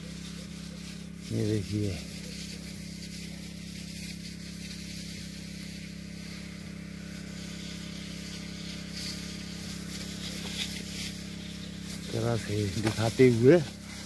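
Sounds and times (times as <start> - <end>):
power sprayer engine humming: 0.0 - 14.0
steady hiss: 0.0 - 14.0.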